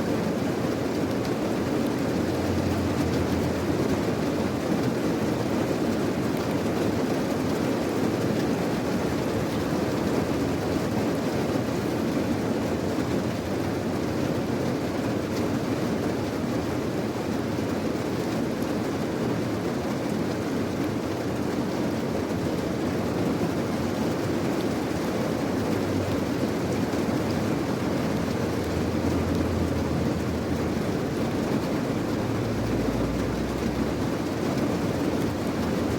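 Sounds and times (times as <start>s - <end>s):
rain falling: 0.0s - 35.9s.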